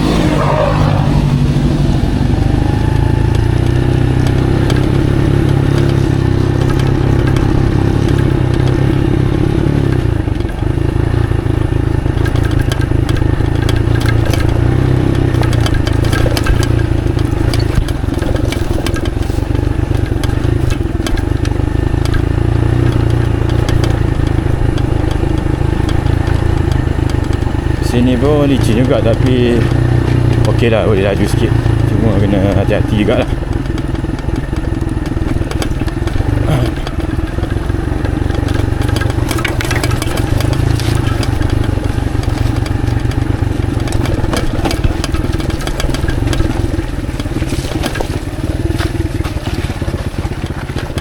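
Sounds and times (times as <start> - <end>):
motorcycle engine running: 0.0 - 51.0
clicks and clatter: 3.0 - 51.0.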